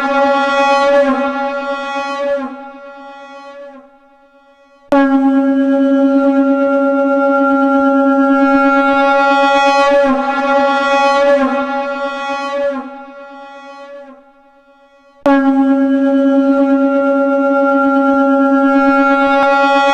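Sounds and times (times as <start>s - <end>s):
conch shell blown: 0.0s - 19.9s.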